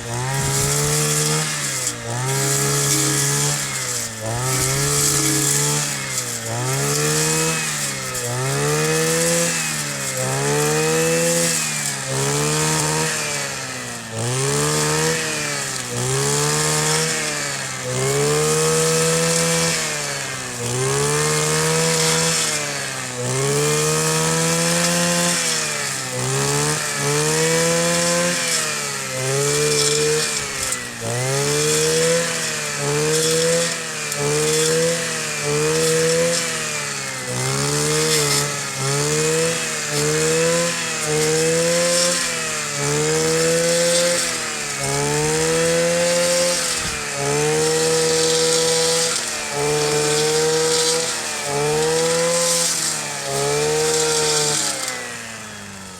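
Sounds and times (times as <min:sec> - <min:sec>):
brush cutter engine revving: 0:00.0 - 0:55.9.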